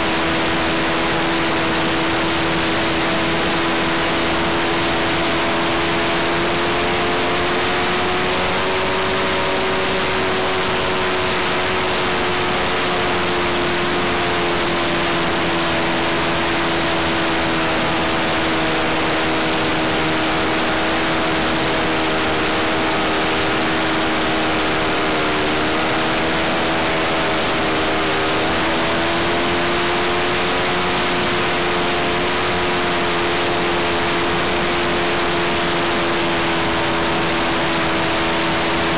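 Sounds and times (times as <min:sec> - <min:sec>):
model plane engine running: 0:00.0 - 0:38.9.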